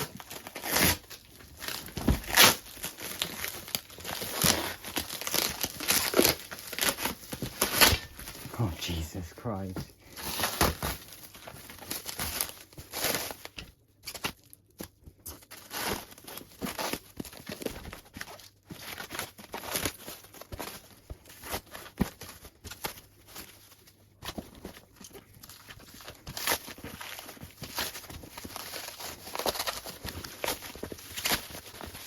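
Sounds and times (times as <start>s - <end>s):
packaging rustling and tearing: 0.0s - 9.0s, 10.0s - 32.0s.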